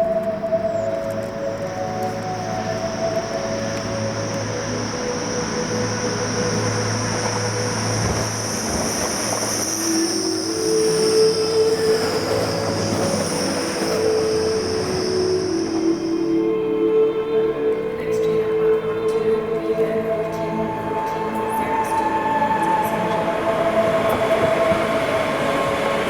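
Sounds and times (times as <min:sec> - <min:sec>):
low steady tones: 0:00.0 - 0:26.0
train rumble: 0:00.0 - 0:26.0
train wheels squealing on rails: 0:00.0 - 0:26.0.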